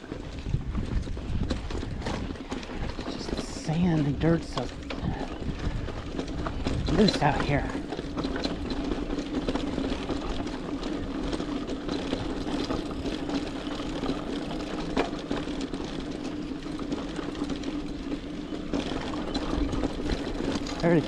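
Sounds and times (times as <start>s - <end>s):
bike clicks and rattles: 0.0s - 21.0s
mountain bike rolling on dirt: 0.0s - 21.0s.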